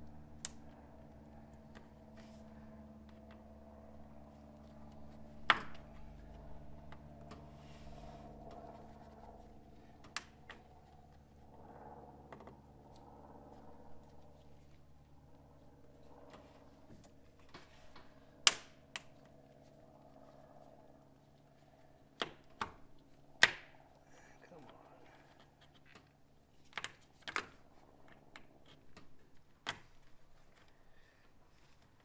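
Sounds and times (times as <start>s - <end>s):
faint steady hum: 0.0s - 26.5s.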